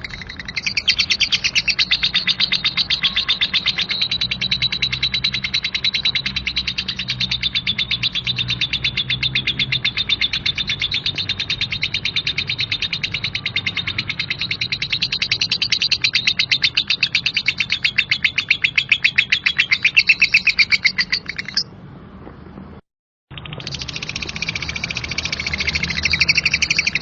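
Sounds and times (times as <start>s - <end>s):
lovebird chattering trill: 0.0s - 21.7s, 23.3s - 27.0s.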